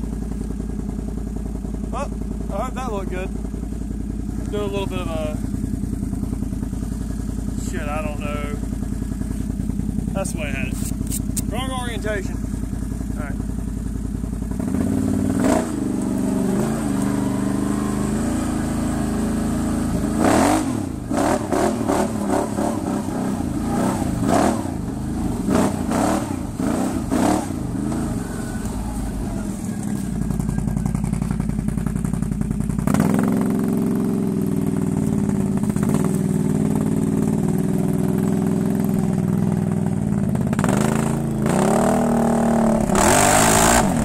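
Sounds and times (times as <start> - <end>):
atv engine revving: 0.0 - 44.0
sharp exhaust cracks: 0.0 - 44.0.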